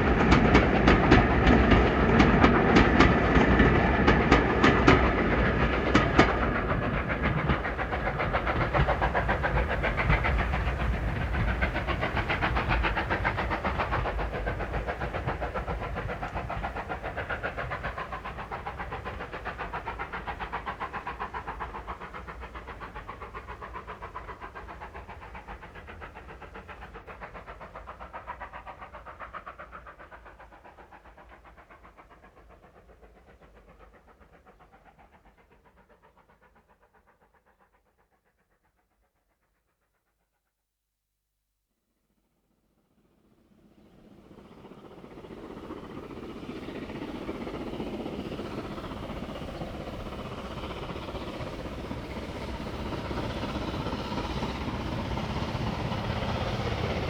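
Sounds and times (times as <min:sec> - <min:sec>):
steam train chugging: 0:00.0 - 0:40.3, 0:43.2 - 0:57.0.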